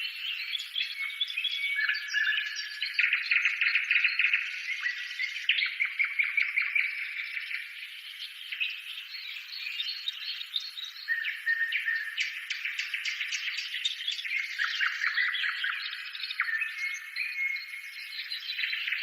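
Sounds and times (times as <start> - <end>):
birds chirping and trilling: 0.0 - 19.0.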